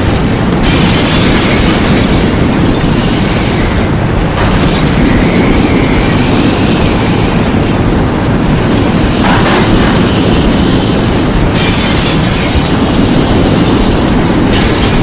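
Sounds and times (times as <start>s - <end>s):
hissing wind rushes: 0.0s - 15.0s
loud rumble of wind: 0.0s - 15.0s.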